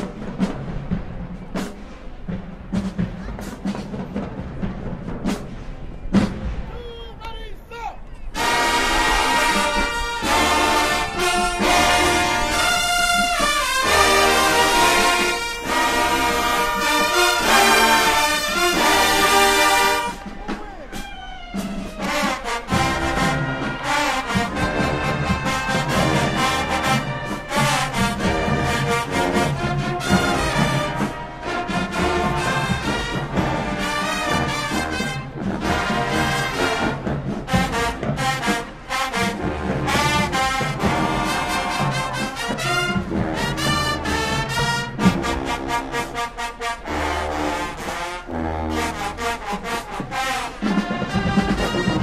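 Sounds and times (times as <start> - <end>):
marching band brass: 0.0 - 52.0
marching band drums: 0.0 - 52.0.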